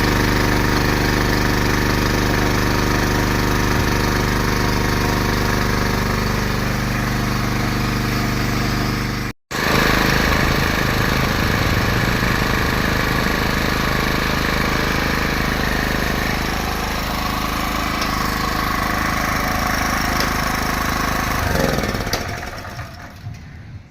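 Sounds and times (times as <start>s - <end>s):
generator engine running: 0.0s - 23.7s.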